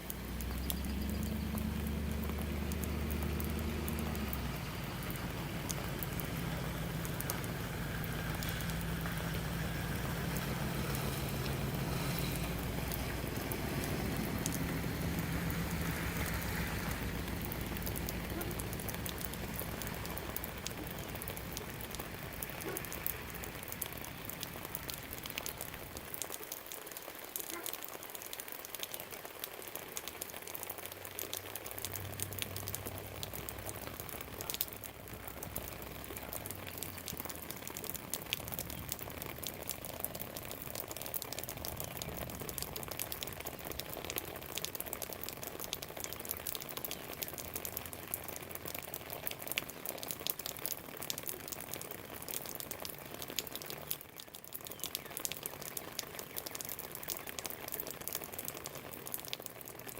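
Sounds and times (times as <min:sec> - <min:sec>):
steady rain drops falling: 0:00.0 - 0:59.9.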